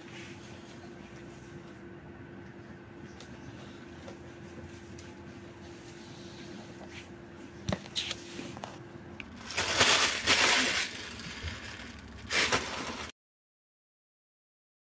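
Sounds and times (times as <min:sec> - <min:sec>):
faint steady hum: 0:00.0 - 0:13.1.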